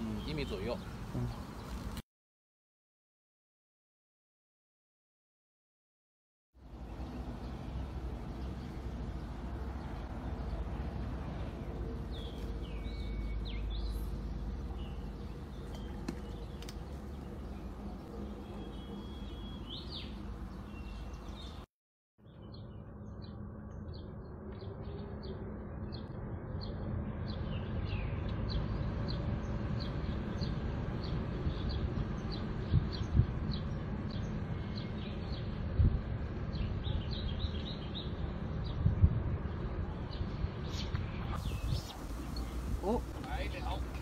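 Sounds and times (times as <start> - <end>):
small birds chirping: 0.0 - 2.0, 6.7 - 35.6, 36.4 - 44.0
low wind rumble: 6.6 - 21.6, 22.3 - 44.0.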